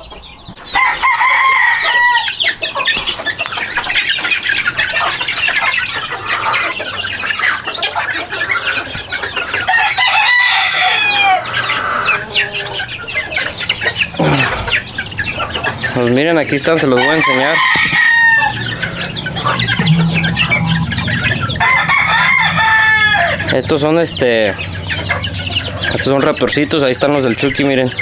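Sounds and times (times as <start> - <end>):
chicks peeping: 0.0 - 28.0
hens clucking: 0.0 - 28.0.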